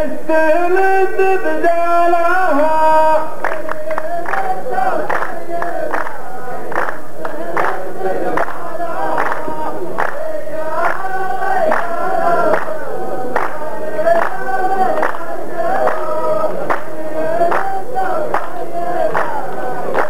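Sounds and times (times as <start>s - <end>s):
men chanting together: 0.8s - 20.0s
clapping in unison: 3.3s - 20.0s.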